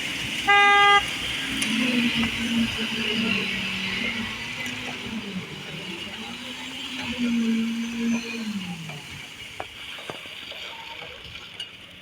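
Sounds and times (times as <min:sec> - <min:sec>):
motor hum winding down: 0:00.0 - 0:09.6.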